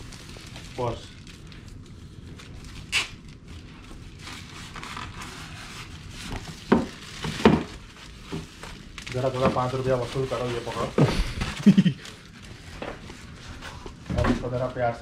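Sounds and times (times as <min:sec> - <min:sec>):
polystyrene foam handled: 0:00.0 - 0:14.6
plastic wrap rustling: 0:00.0 - 0:15.0.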